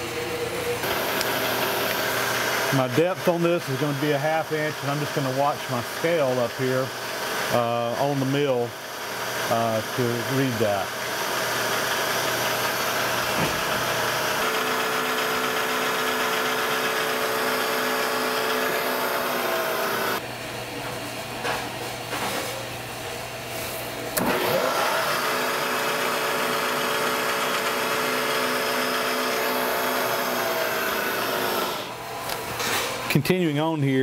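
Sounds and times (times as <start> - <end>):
milling machine motor humming: 0.0 - 20.4, 23.9 - 33.1.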